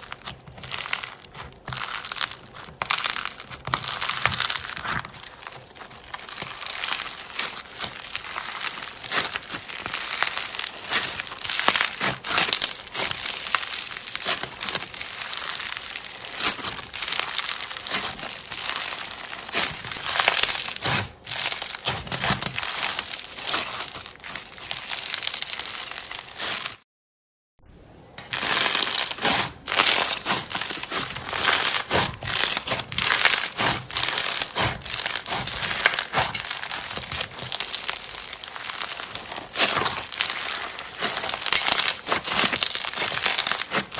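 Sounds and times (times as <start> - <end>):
slime crackling and popping: 0.0 - 26.8, 28.2 - 43.9.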